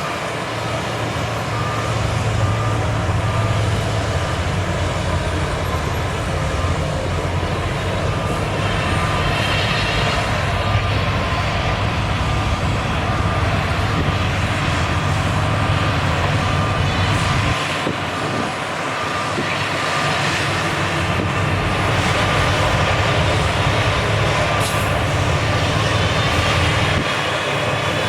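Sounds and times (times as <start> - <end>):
diesel machinery engine rumble: 0.0 - 28.0.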